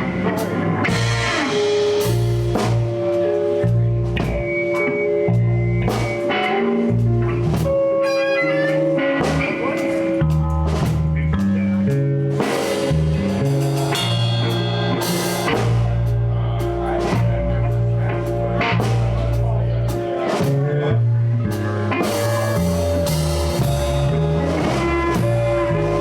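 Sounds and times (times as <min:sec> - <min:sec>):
drum kit beat: 0:00.0 - 0:26.0
electric guitar: 0:00.0 - 0:26.0
walking bass line: 0:00.0 - 0:26.0.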